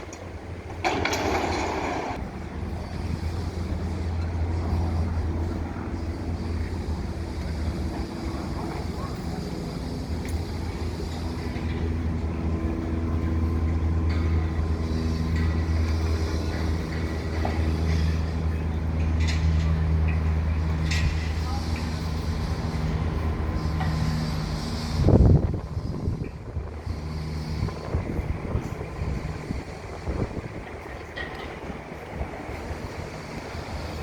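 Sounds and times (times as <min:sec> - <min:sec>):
heavy engines humming: 0:00.0 - 0:34.0
traffic: 0:00.0 - 0:34.0.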